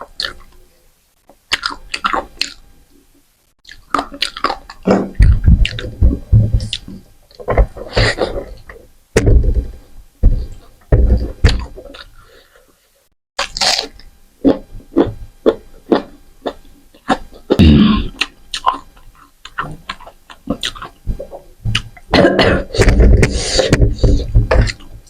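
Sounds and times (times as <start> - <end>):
person chewing: 0.0 - 0.7, 1.5 - 3.0, 3.6 - 8.8, 11.4 - 12.7, 13.4 - 24.9.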